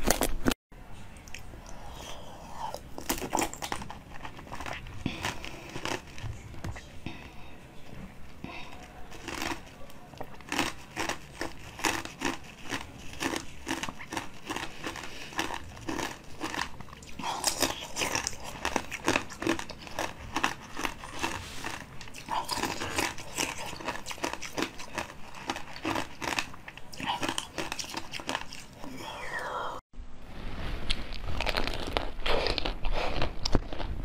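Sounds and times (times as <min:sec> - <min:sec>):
crunchy biting and chewing: 0:01.2 - 0:06.8, 0:08.6 - 0:28.9, 0:30.9 - 0:34.0.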